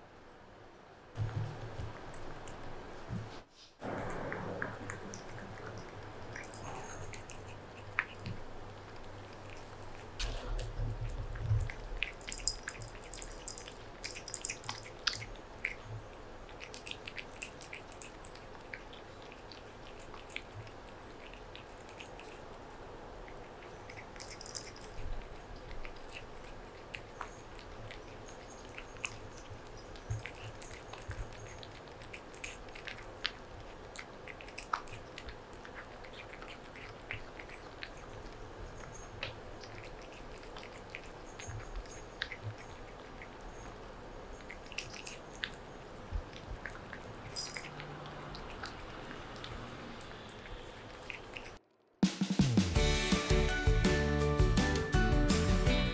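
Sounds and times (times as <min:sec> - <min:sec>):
cat chewing and licking: 0:01.2 - 0:51.6.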